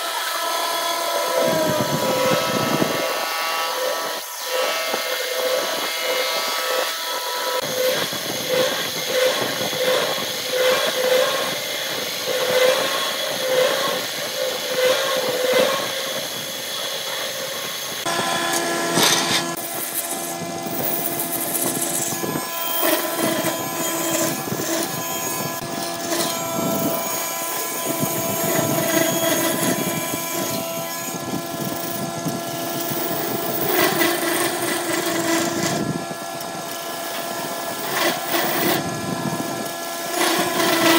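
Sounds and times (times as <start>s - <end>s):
drill bit grinding into wood: 0.0s - 40.9s
wood lathe humming: 0.0s - 40.9s
gouge scraping spinning wood: 0.2s - 40.9s.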